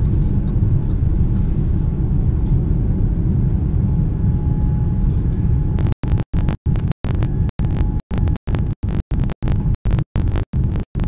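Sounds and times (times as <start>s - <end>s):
aircraft cabin engine rumble: 0.0s - 10.9s.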